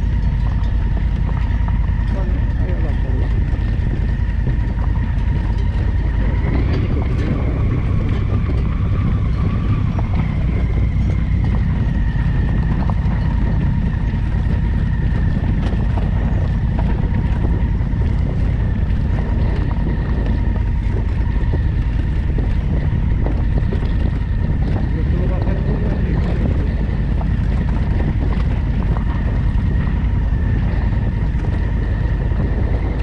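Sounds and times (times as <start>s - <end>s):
motorcycle engine drone: 0.0s - 33.0s
wind rumble on microphone: 0.0s - 33.0s.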